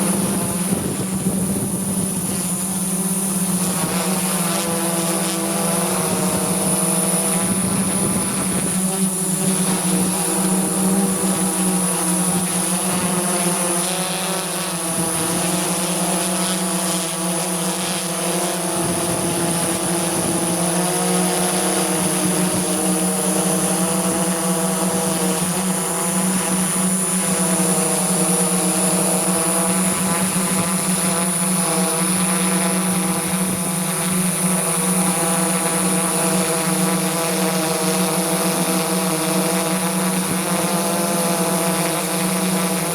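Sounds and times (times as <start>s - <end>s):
drone motors buzzing: 0.0s - 42.9s.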